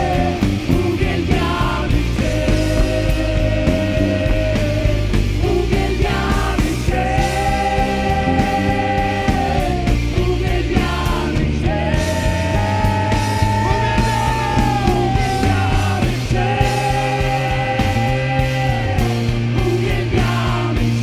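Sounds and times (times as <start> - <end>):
live rock band playing: 0.0 - 21.0
steady drum beat: 0.0 - 21.0.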